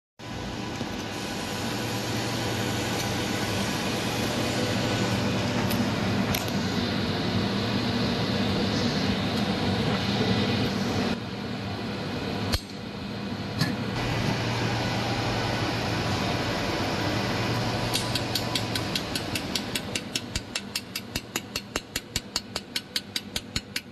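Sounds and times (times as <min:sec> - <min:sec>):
cooling fan humming: 0:00.2 - 0:23.9.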